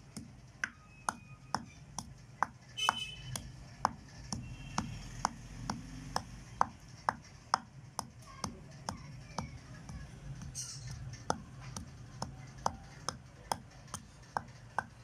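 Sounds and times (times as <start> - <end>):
pestle pounding in a mortar: 0.0 - 9.6, 10.3 - 15.0.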